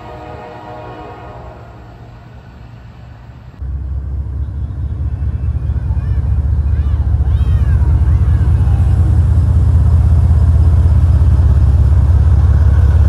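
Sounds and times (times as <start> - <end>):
diesel locomotive engine rumble: 0.0 - 13.0
distant diesel locomotive humming: 0.0 - 13.0.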